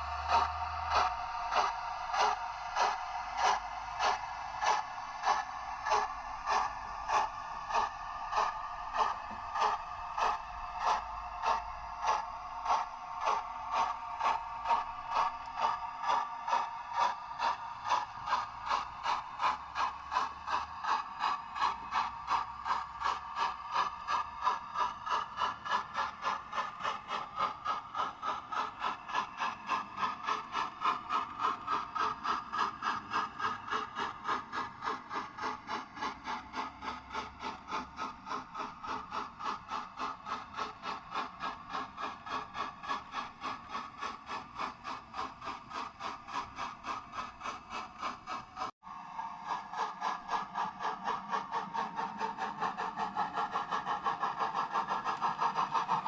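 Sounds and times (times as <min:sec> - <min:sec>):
model train rhythmic pulsing: 0:00.0 - 0:56.0.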